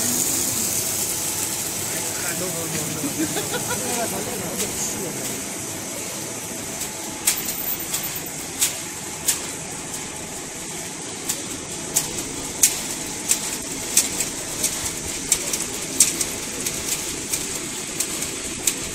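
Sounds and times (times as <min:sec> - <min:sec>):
machinery running steadily: 0:00.0 - 0:18.9.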